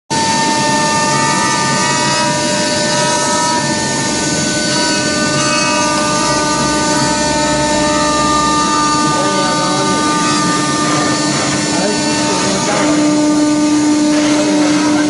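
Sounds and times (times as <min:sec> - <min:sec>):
wood cutting noise: 0:00.1 - 0:15.0
router spindles whining: 0:00.2 - 0:15.0.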